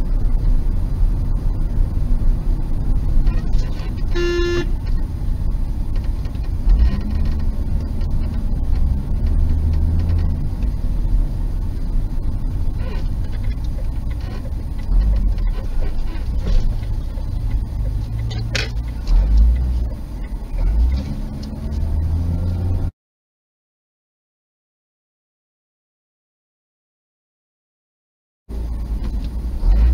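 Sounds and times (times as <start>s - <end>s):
car engine and road noise: 0.0s - 23.0s, 28.5s - 29.9s.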